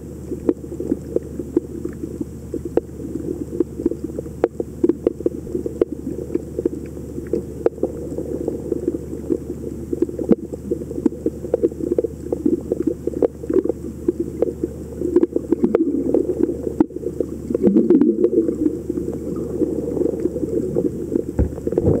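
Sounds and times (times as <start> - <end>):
underwater water movement rumble: 0.0 - 22.0
underwater clicks and crackles: 0.2 - 22.0.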